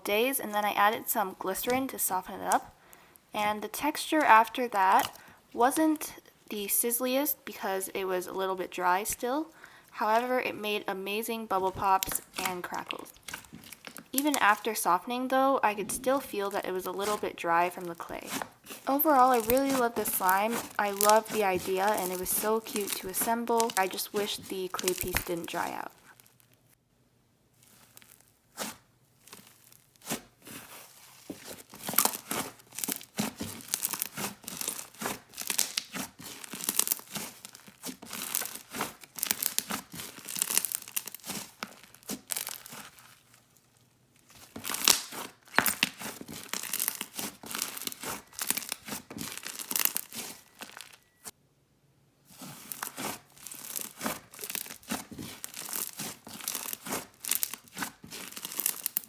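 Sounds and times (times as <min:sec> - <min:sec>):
clay slime crackling and popping: 0:00.0 - 0:26.8, 0:27.5 - 0:51.4, 0:52.3 - 0:59.0.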